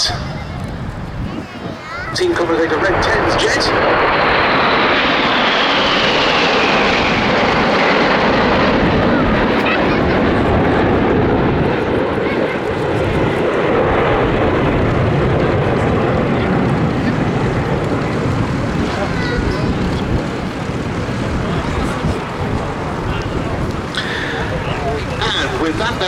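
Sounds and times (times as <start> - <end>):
jets flying past: 0.0 - 26.0.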